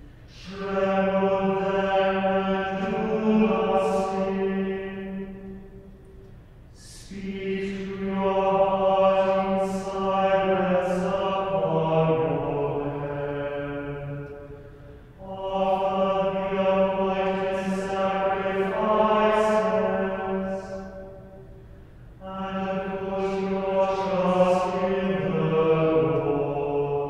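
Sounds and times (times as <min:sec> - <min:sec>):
choir chanting in unison: 0:00.0 - 0:06.0, 0:06.8 - 0:21.6, 0:22.2 - 0:27.0.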